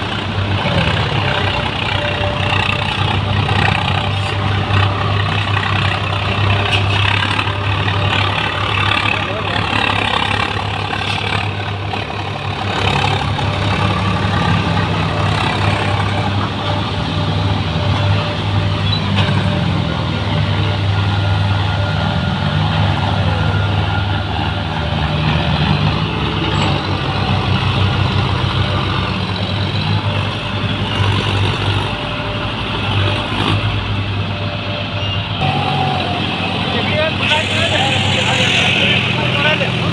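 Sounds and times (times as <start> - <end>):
tractor diesel engines droning: 0.0 - 39.9.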